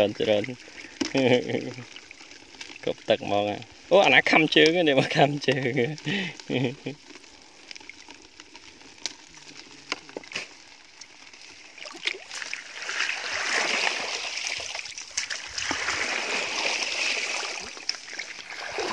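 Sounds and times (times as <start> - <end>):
dry grass rustling and crackling: 0.0 - 18.9.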